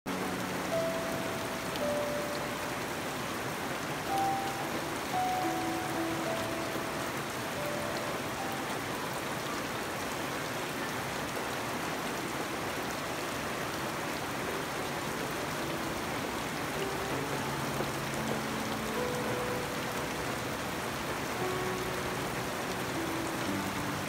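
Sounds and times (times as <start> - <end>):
rain on foliage: 0.1 - 24.0.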